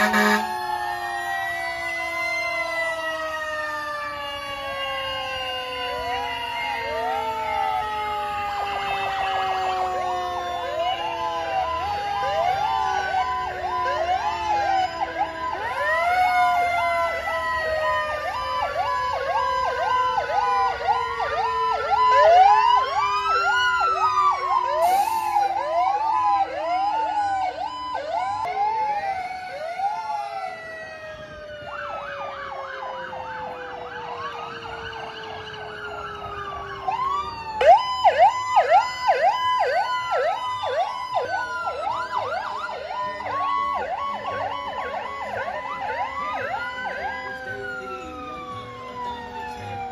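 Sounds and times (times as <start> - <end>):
fast yelping siren sweeps: 0.0 - 49.9
fire engine sirens wailing: 0.0 - 49.9
siren tones sliding down in pitch: 0.0 - 49.9.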